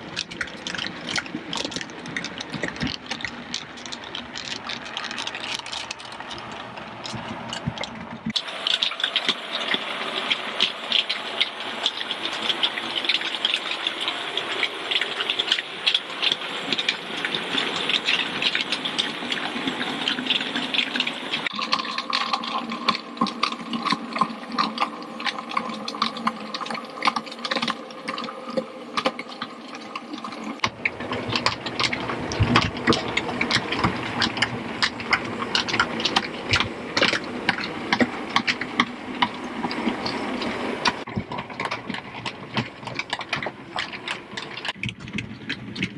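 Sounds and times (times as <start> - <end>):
small locomotive motors whirring: 0.0 - 45.9
wheels clicking on track: 0.0 - 45.9.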